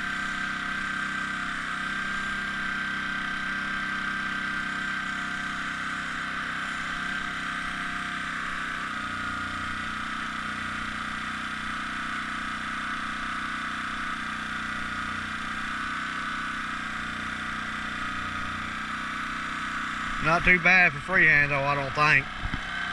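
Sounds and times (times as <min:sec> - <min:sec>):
air compressor humming: 0:00.0 - 0:22.9.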